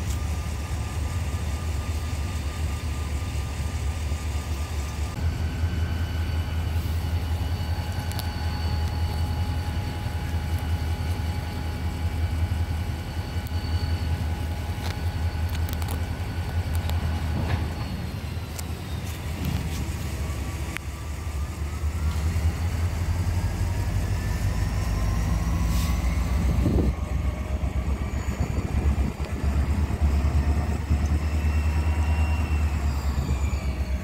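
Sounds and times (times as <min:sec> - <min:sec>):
faint high whines: 0:00.0 - 0:34.0
low engine rumble: 0:00.0 - 0:34.0.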